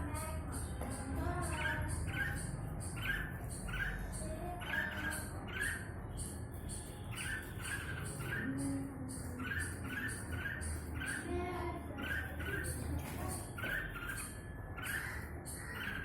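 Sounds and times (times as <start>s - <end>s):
bulbul calling: 0.0s - 16.0s.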